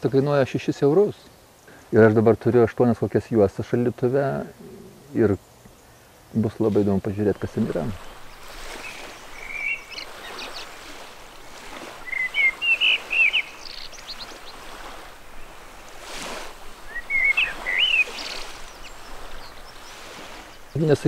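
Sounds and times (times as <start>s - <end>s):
outdoor background hiss: 0.0s - 21.0s
songbird chirping: 0.2s - 21.0s.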